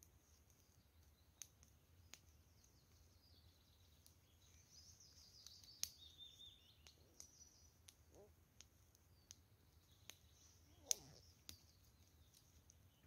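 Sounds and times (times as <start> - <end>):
campfire crackling: 0.0 - 13.0
faint birdsong trills: 0.0 - 13.0.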